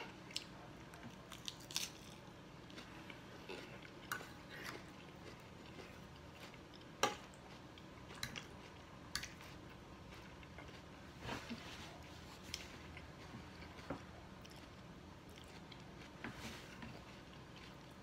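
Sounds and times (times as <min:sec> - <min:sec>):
chewing crisp lettuce: 0:00.2 - 0:18.0.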